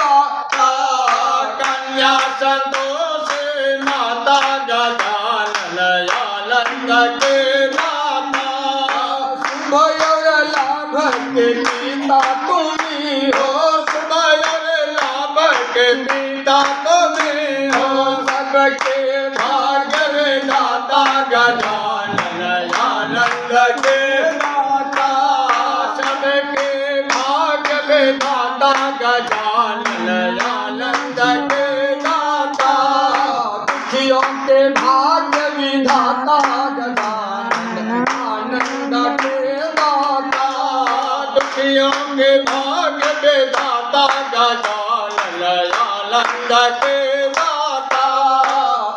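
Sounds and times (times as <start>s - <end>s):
hands clapping in time: 0.0s - 48.7s
people singing a hymn: 0.0s - 48.9s.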